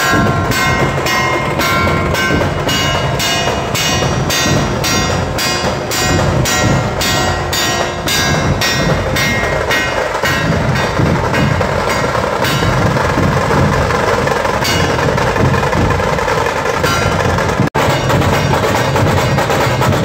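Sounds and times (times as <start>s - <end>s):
barrel drums beating: 0.0s - 20.0s.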